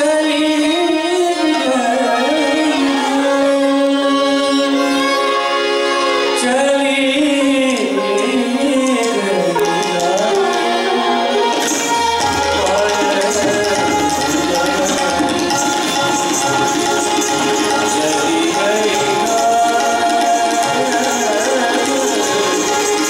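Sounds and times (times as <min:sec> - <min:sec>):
harmonium: 0:00.0 - 0:23.0
person singing ornamented melody: 0:00.0 - 0:23.0
sitar: 0:00.0 - 0:23.0
tabla: 0:00.0 - 0:23.0.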